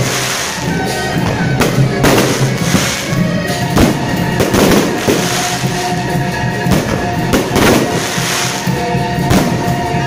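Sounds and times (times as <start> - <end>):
firework shells bursting: 0.0 - 6.0, 6.7 - 9.9
music: 0.0 - 10.0.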